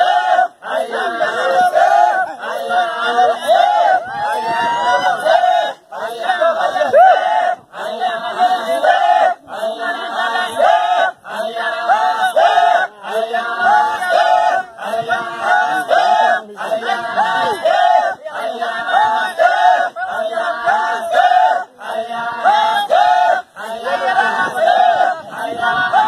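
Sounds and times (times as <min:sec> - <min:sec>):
group chanting: 0:00.0 - 0:26.0.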